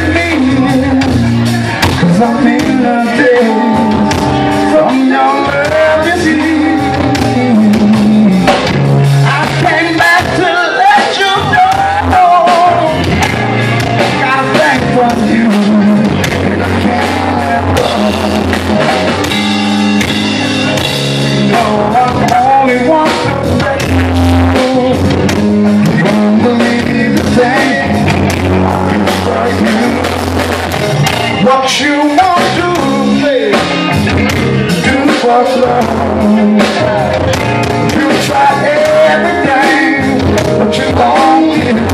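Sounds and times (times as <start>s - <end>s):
blues-rock band playing: 0.0s - 41.9s
electric guitar bending notes: 0.0s - 41.9s.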